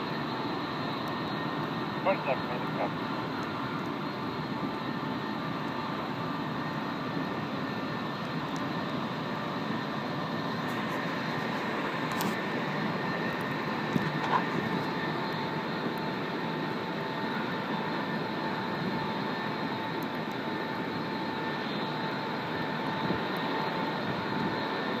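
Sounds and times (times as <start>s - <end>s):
aircraft turbine whine: 0.0s - 25.0s.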